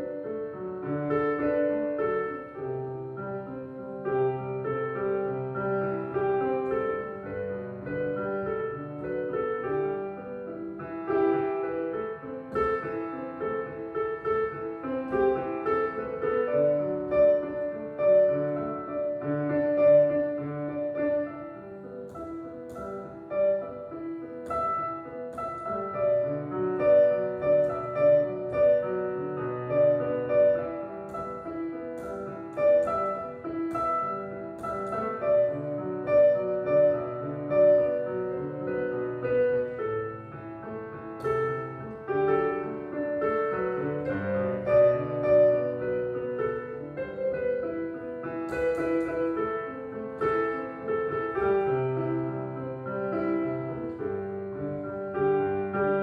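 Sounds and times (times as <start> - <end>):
electronic piano melody: 0.0 - 56.0.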